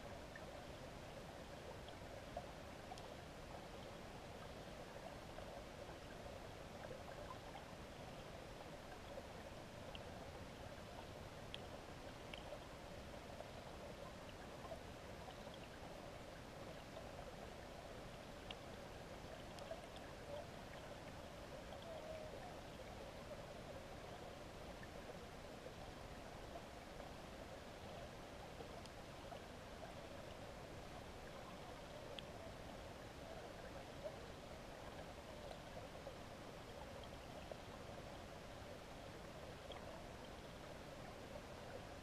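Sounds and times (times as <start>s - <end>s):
faint ticks: 0.0s - 42.0s
muffled underwater river flow: 0.0s - 42.0s.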